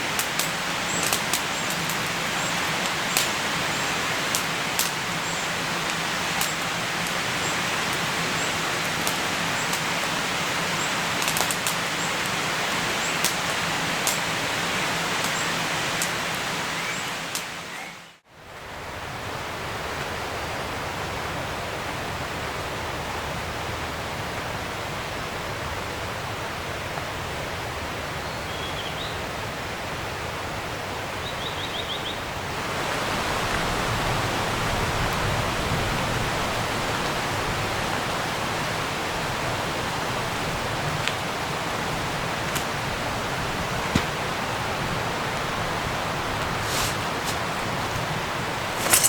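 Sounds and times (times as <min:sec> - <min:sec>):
rushing outdoor ambience: 0:00.0 - 0:49.0.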